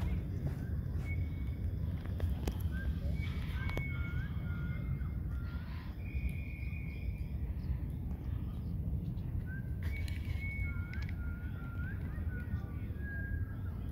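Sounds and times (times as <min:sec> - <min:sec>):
faint high bird calls: 0:00.0 - 0:13.9
wind rumbling on microphone: 0:00.0 - 0:13.9.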